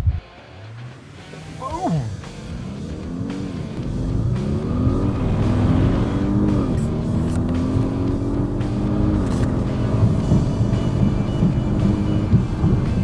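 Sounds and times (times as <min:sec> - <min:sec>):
car engine accelerating hard: 0:00.6 - 0:13.0.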